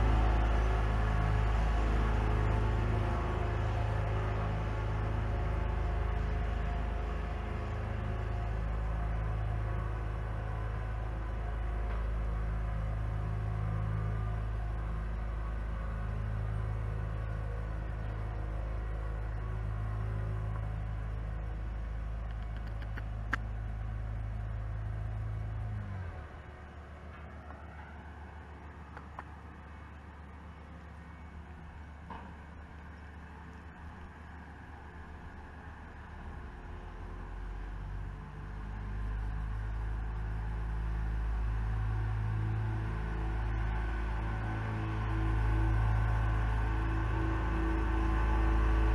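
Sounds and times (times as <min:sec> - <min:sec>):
diesel engines humming: 0:00.0 - 0:48.9.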